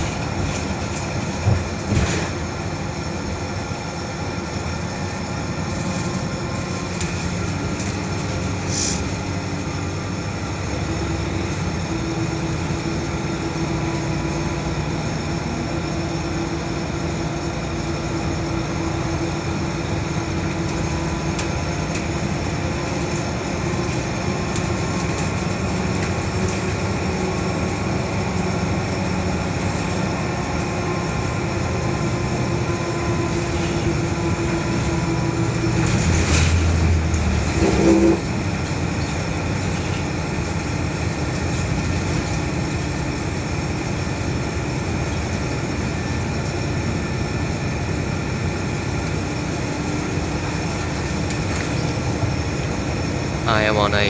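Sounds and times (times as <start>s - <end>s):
bus diesel engine: 0.0s - 54.0s
road noise: 0.0s - 54.0s.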